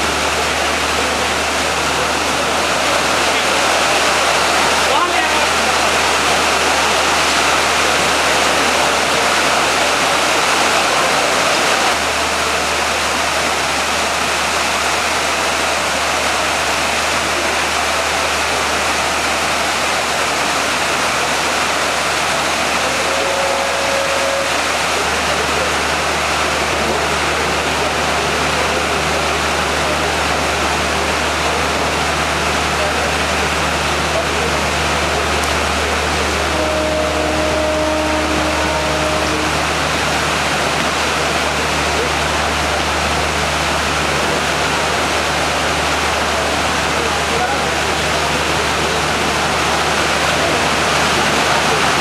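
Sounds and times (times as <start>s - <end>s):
loud rushing noise: 0.0s - 52.0s.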